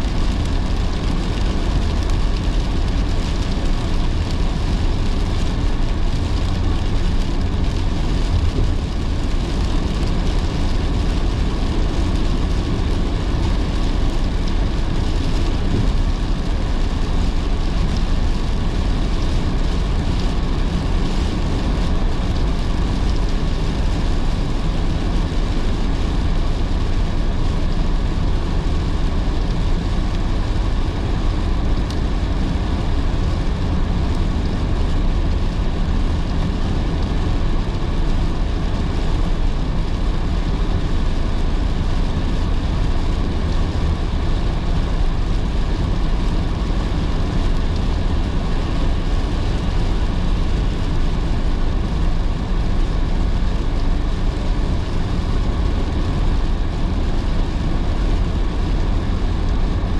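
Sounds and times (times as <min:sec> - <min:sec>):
rain on car: 0:00.0 - 0:59.9
road and tyre noise: 0:00.0 - 0:59.9.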